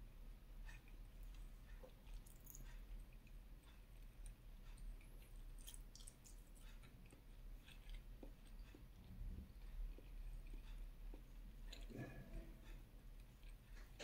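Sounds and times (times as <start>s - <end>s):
faint chewing: 0.6s - 14.0s.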